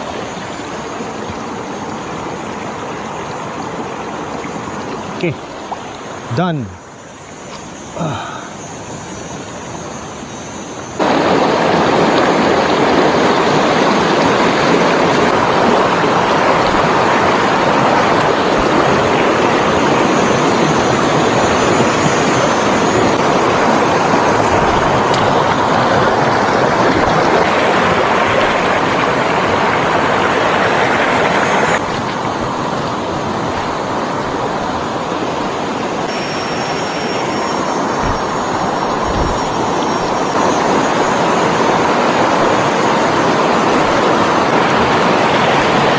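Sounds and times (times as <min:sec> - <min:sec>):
stream water rushing over rapids: 0:00.0 - 0:45.9.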